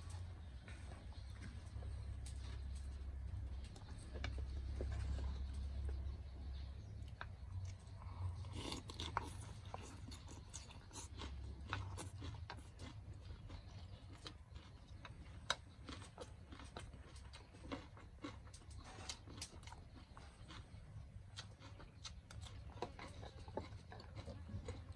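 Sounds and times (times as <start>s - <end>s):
person chewing crunchy food: 0.0s - 24.9s.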